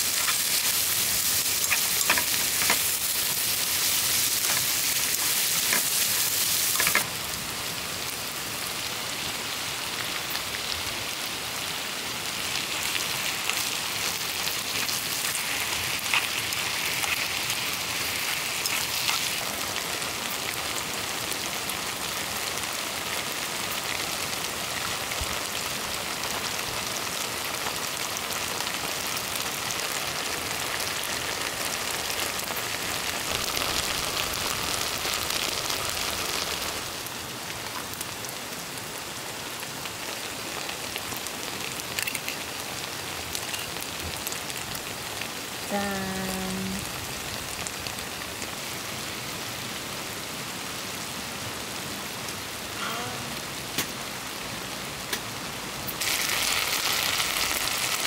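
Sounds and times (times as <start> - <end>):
food sizzling in a pan: 0.0 - 49.5, 55.8 - 58.0
rain falling on surfaces: 0.0 - 58.0.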